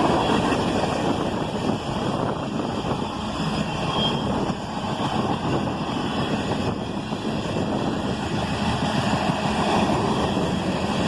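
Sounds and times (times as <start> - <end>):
train wheels rumbling on rails: 0.0 - 11.0
wind on microphone: 0.0 - 11.0.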